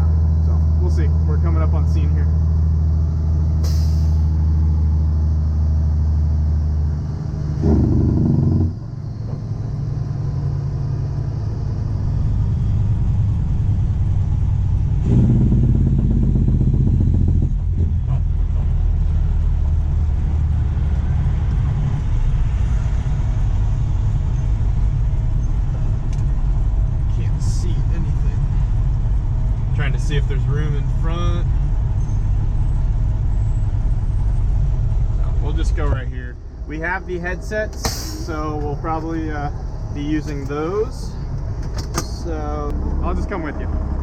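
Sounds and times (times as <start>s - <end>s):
tow truck engine droning: 0.0s - 44.0s.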